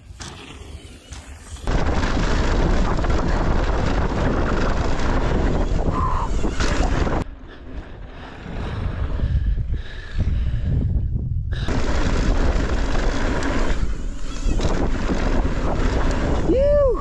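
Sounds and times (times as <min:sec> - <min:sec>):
mountain bike rumble and rattle: 0:00.0 - 0:17.0
wind buffeting microphone: 0:01.7 - 0:17.0.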